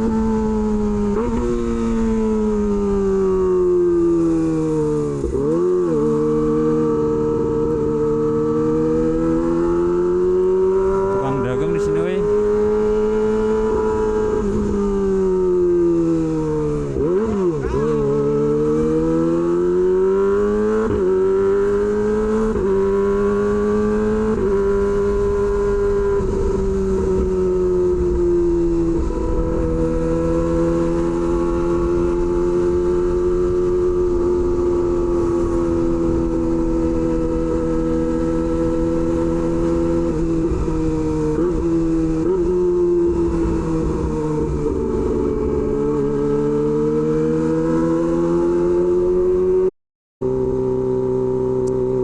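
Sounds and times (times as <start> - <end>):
low wind rumble: 0.0 - 49.7
motorcycle engine revving: 0.0 - 52.0.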